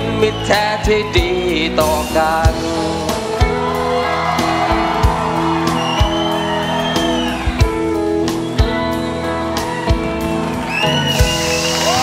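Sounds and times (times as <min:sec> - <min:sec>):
bass: 0:00.0 - 0:12.0
electric guitar melody: 0:00.0 - 0:12.0.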